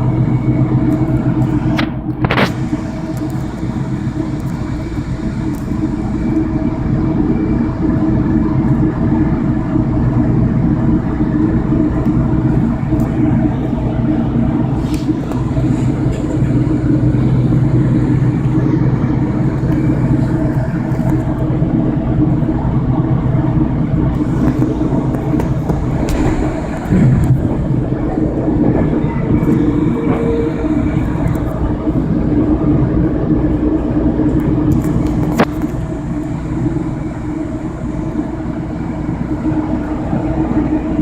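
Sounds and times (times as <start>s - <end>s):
train car rumble and hum: 0.0s - 41.0s.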